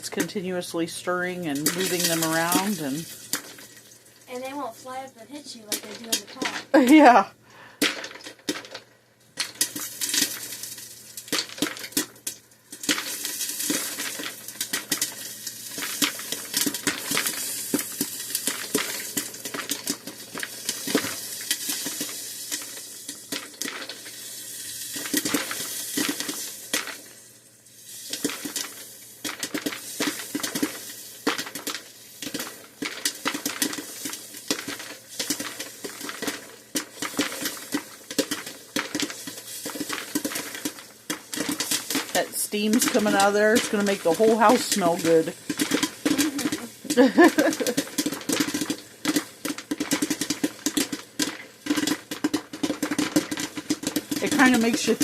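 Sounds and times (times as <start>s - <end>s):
popcorn popping: 0.0s - 55.0s.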